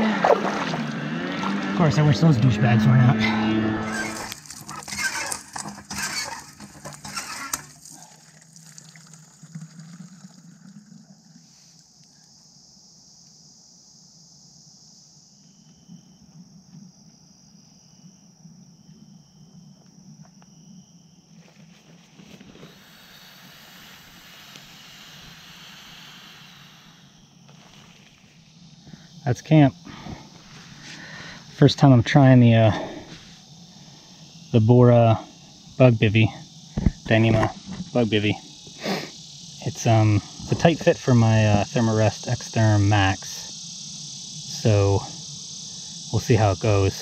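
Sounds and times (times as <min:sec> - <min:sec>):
outdoor ambience with high hiss: 0:00.0 - 0:47.0.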